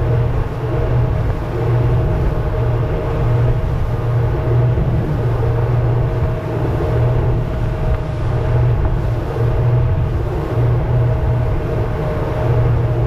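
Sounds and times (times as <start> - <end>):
outboard motors droning: 0.0 - 13.0
rush of wind and water: 0.0 - 13.0.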